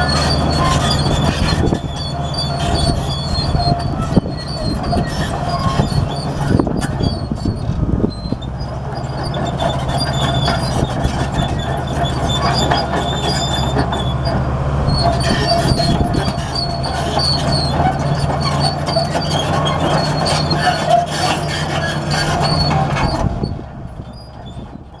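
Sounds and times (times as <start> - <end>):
bulldozer diesel engine under load: 0.0 - 25.0
steel tracks squealing and clanking: 0.0 - 25.0.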